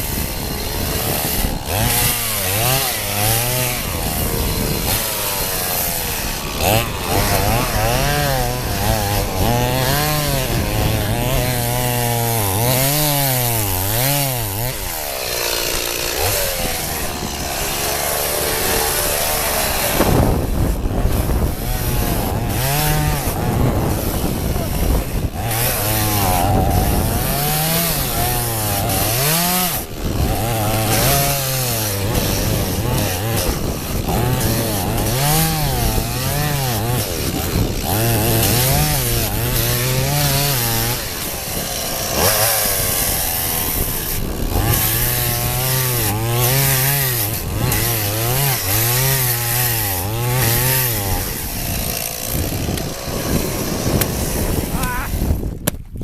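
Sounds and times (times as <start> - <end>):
chainsaw cutting through ice: 0.0 - 56.0.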